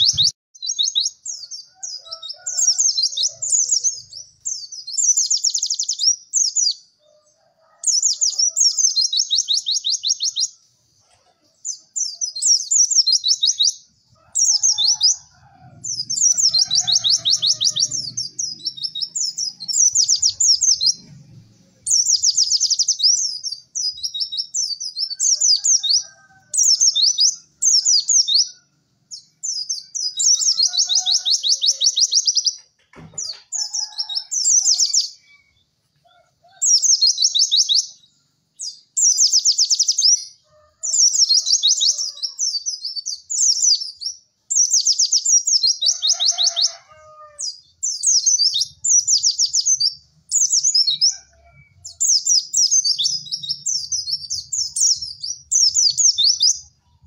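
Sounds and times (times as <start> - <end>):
bird singing high trills: 0.0 - 6.9, 11.6 - 21.1, 21.7 - 32.6, 36.6 - 56.8.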